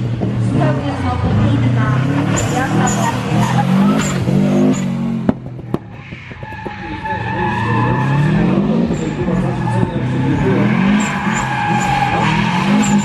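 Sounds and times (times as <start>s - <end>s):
car engine revving hard: 0.0s - 5.5s, 6.9s - 13.0s
tyres screeching: 1.0s - 13.0s.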